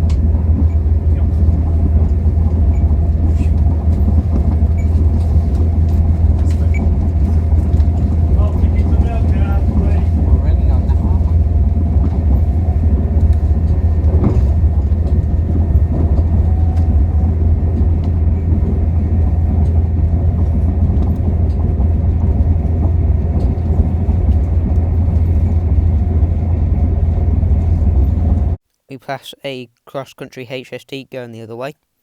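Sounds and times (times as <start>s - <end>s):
train rumbling: 0.0s - 28.6s.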